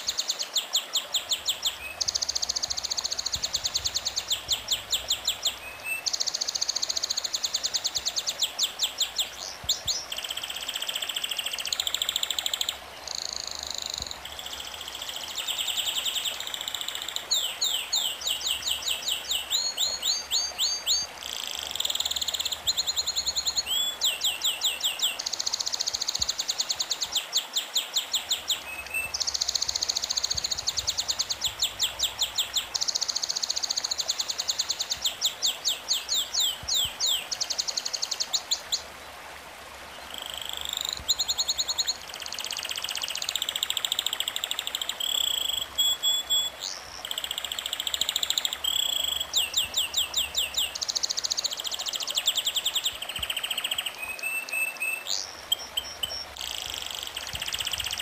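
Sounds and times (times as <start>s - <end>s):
songbirds chirping and trilling: 0.0s - 38.9s, 39.8s - 58.0s
steady background hiss: 0.0s - 58.0s.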